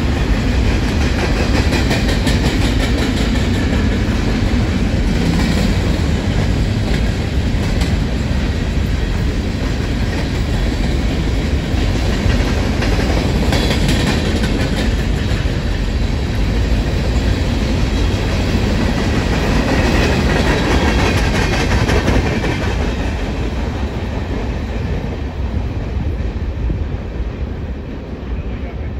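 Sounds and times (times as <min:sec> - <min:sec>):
freight train rolling past: 0:00.0 - 0:28.9.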